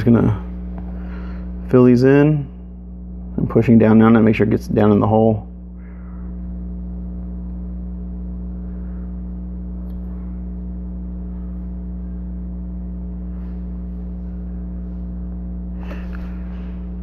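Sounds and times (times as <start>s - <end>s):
mains electrical hum: 0.0s - 17.0s.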